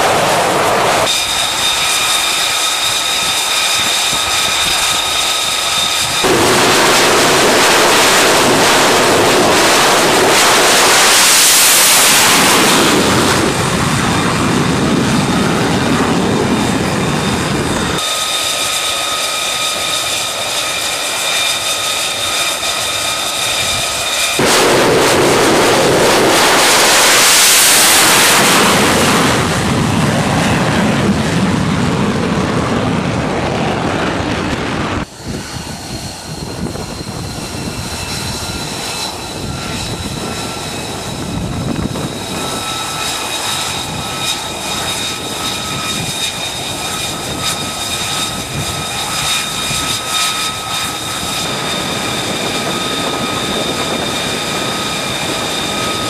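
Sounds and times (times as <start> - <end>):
high-pitched turbine whine: 0.0 - 56.0
rushing jet noise: 0.0 - 56.0.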